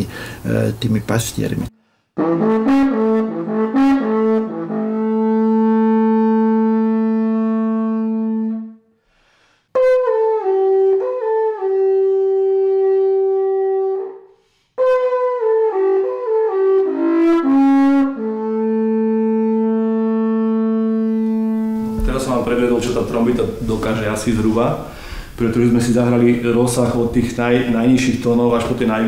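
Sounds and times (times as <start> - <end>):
wooden horn phrases: 2.2 - 8.9, 9.8 - 29.0.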